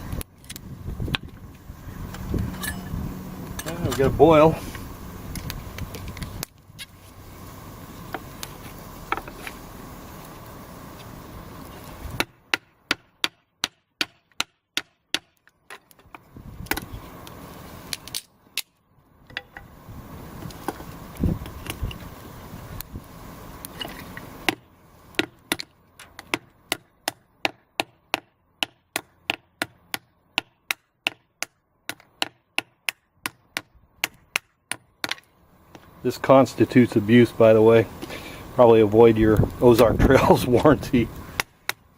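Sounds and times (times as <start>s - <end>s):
wood splitting and handling noise: 0.0s - 37.0s, 37.9s - 41.9s.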